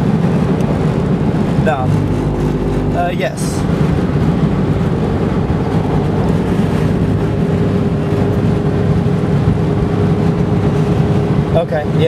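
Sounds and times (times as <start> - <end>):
car road noise at highway speed: 0.0 - 12.0
steady hum: 0.0 - 12.0.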